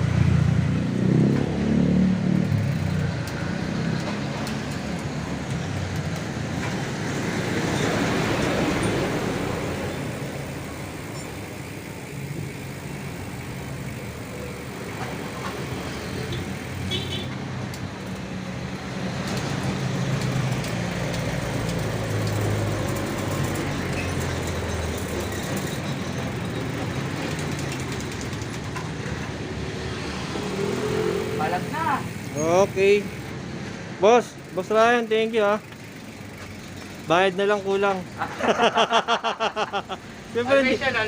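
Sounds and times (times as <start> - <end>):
passing vehicles rushing: 0.0 - 41.0.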